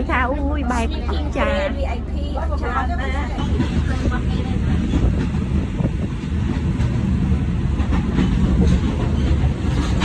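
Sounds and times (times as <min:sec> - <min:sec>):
train carriage rumbling on track: 0:00.0 - 0:10.0.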